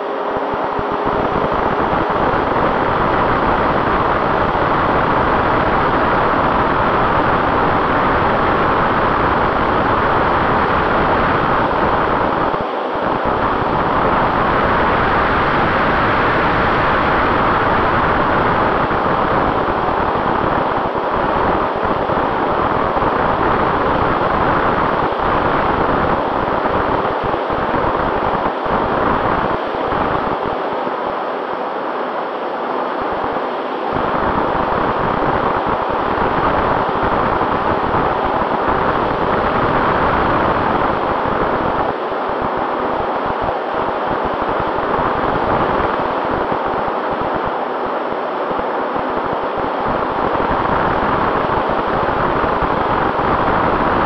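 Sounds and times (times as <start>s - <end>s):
airflow rushing over microphone: 0.0s - 54.0s
faint steady whine: 0.0s - 54.0s.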